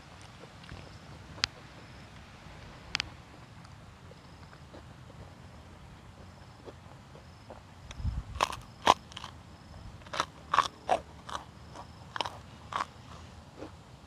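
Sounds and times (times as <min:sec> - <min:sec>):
crunchy bites and chewing: 0:00.0 - 0:13.8.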